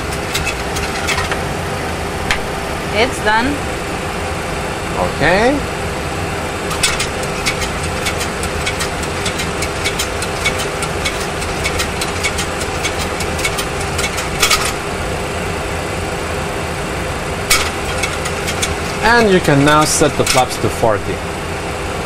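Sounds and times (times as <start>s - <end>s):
simulated engine and airflow noise: 0.0s - 22.0s.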